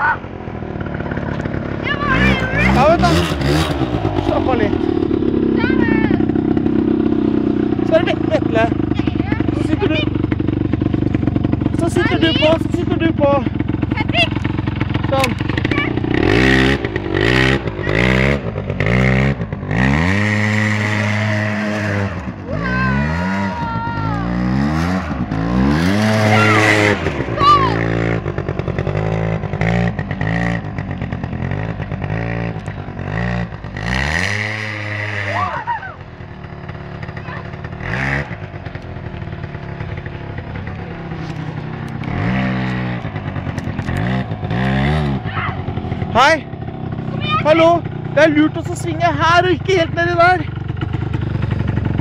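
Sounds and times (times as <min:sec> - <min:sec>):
small engine revving: 0:00.8 - 0:52.0.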